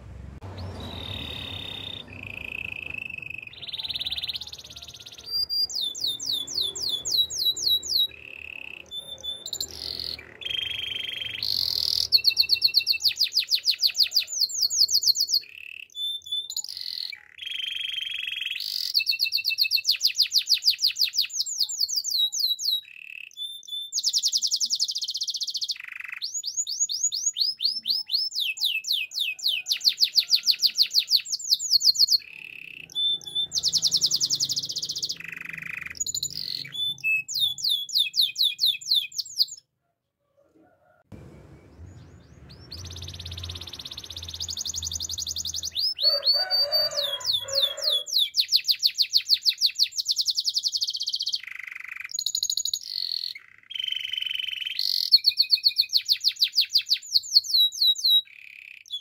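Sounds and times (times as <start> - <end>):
canary singing trills: 0.4 - 39.7, 41.6 - 59.0.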